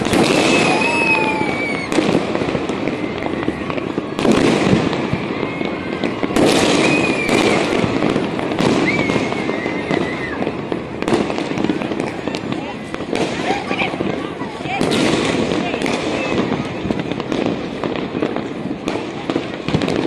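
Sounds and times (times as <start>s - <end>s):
firework whistles: 0.0s - 20.0s
fireworks crackling and popping: 0.0s - 20.0s
loud firework bursts: 0.0s - 20.0s.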